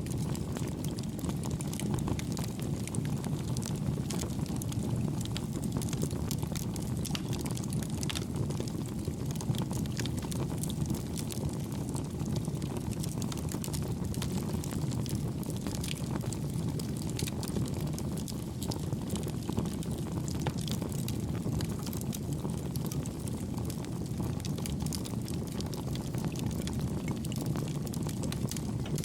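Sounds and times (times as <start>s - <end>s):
campfire flame rumble: 0.0s - 29.0s
soft fire crackles and pops: 0.0s - 29.0s.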